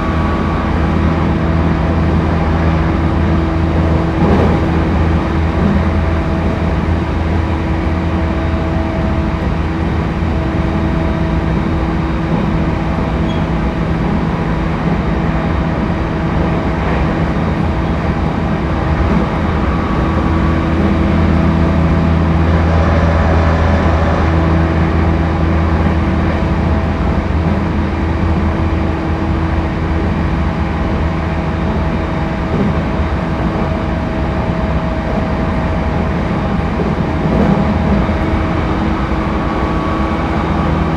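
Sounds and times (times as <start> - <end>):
constant hum tones: 0.0 - 40.9
train wheels rumbling on rails: 0.0 - 40.9.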